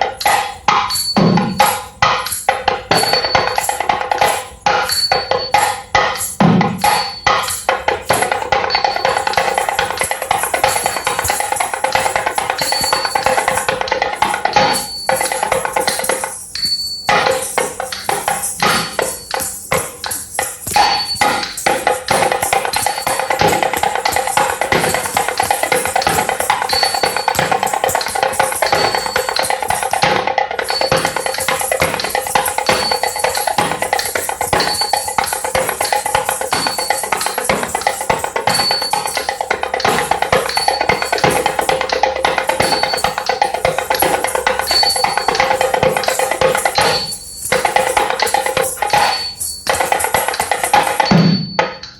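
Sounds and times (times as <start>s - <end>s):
drum played in sharp strokes: 0.0s - 51.9s
steady held tone: 0.0s - 51.9s.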